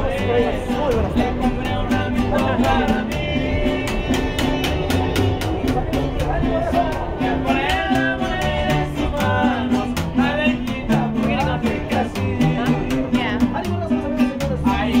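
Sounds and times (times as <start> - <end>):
acoustic guitar strummed: 0.0 - 15.0
man singing: 0.0 - 15.0
plucked upright bass: 0.0 - 15.0.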